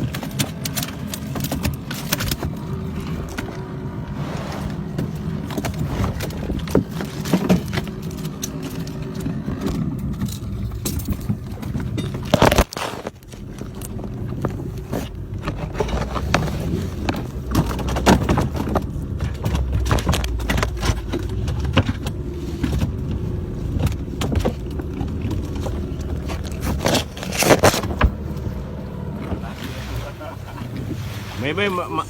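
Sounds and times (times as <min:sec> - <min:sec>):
knocks clicks and scrapes: 0:00.0 - 0:29.7.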